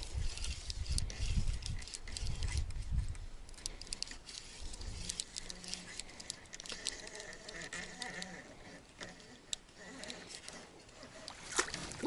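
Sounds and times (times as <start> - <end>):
fishing tackle clicking: 0.0 - 10.6
faint buzzing: 0.0 - 12.0.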